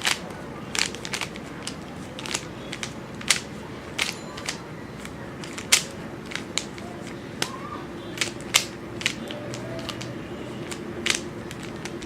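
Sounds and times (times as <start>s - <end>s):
puzzle cube clicking: 0.0s - 12.0s.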